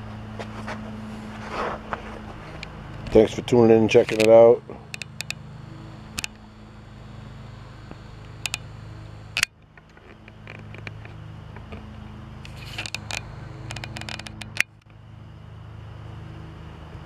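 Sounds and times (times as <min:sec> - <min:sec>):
room tone hum: 0:00.0 - 0:17.0.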